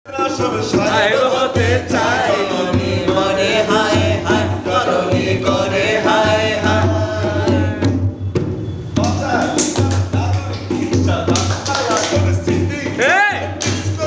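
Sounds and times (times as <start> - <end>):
hand drum: 0.1 - 14.0.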